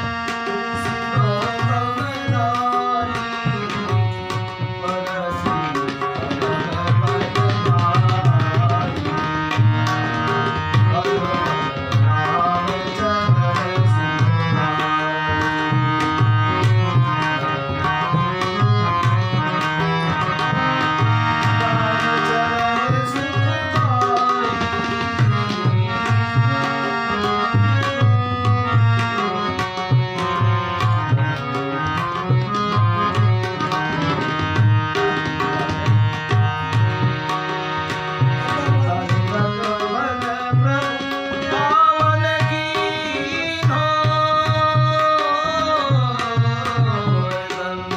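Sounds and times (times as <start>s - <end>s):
harmonium melody: 0.0s - 47.9s
tabla rhythm with bass strokes: 0.0s - 47.9s.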